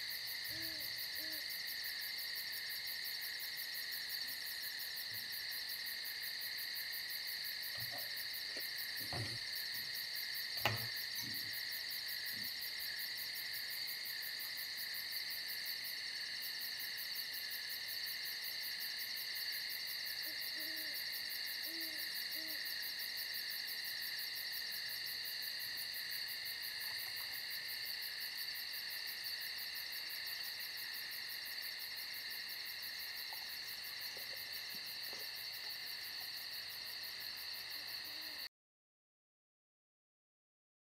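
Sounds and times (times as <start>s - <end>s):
insect chorus chirring: 0.0s - 38.5s.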